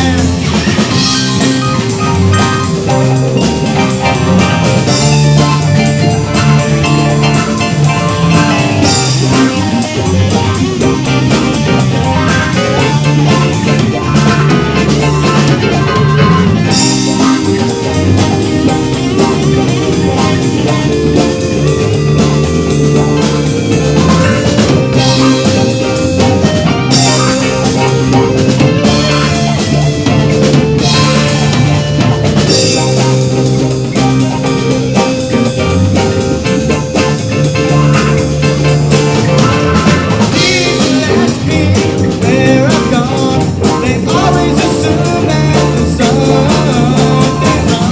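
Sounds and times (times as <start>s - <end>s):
bass guitar: 0.0s - 47.9s
drum kit beat: 0.0s - 47.9s
electric guitars: 0.0s - 47.9s
keyboards: 0.0s - 47.9s.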